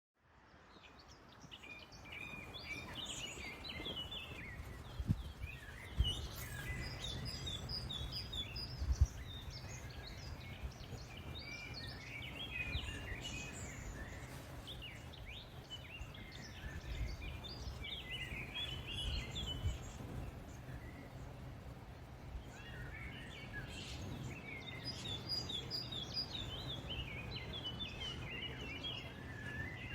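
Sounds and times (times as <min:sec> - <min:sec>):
songbirds chirping and singing: 0:00.5 - 0:29.9.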